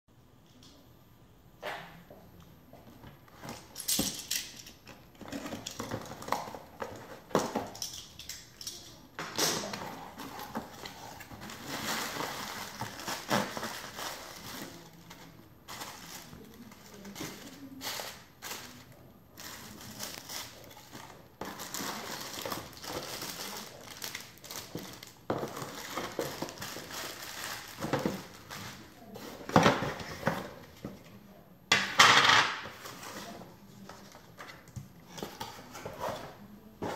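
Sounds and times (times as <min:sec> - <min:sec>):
plastic wrap and cardboard rustling: 0:03.0 - 0:31.4, 0:32.6 - 0:36.9.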